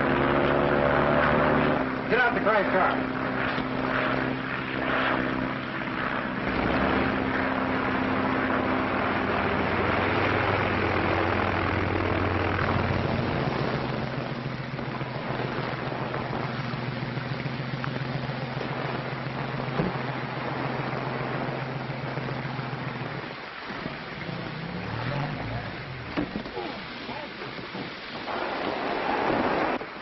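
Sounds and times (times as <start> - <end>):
propeller airplane engines droning: 0.0 - 30.0.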